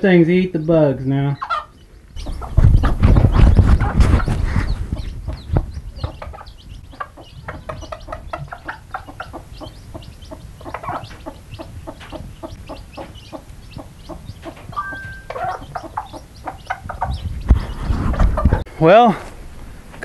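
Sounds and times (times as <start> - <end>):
hen clucking: 0.0 - 18.7
chicks peeping: 0.0 - 19.4.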